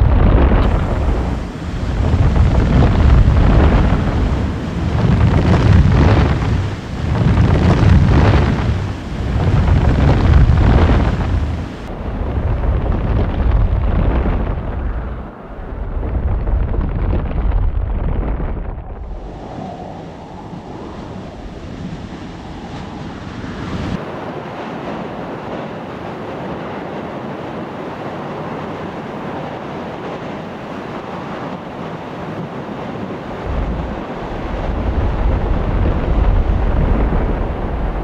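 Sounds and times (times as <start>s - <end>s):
lava lake rushing rumble: 0.0s - 38.0s
wind buffeting microphone: 0.0s - 38.0s.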